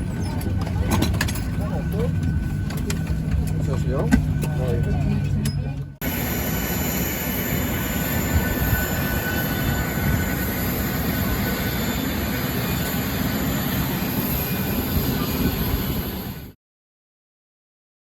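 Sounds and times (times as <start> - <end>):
aircraft rumble: 0.0 - 16.6
faint jet whine: 0.0 - 16.6.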